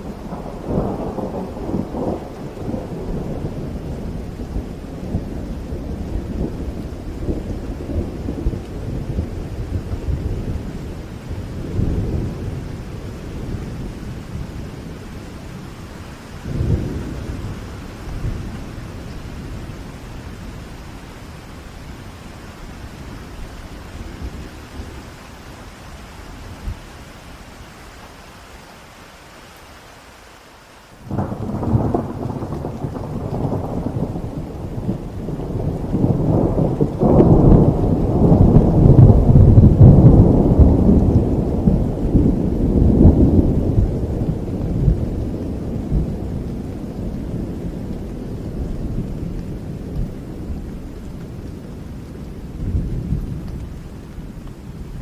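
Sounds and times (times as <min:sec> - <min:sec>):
thunder rumbling: 0:00.0 - 0:27.5, 0:31.0 - 0:55.0
steady rain: 0:00.0 - 0:55.0.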